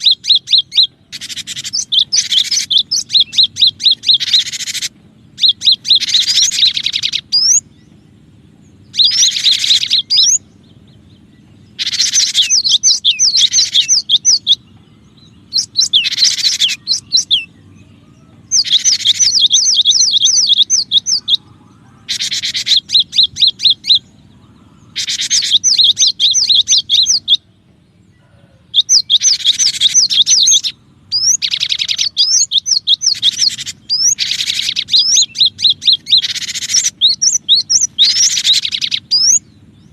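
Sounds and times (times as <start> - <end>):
bird singing high upswept notes: 0.0 - 39.9.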